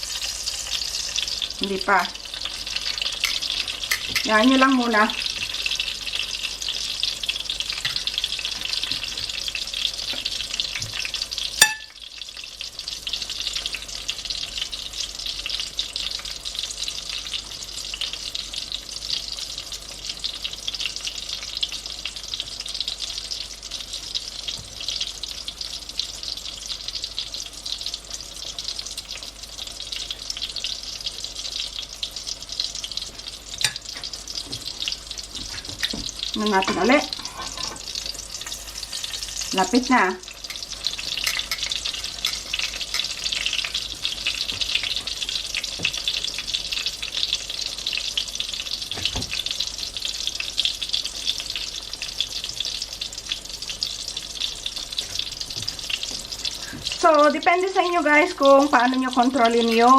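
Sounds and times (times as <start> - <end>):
oil sizzling in a pan: 0.0 - 59.9.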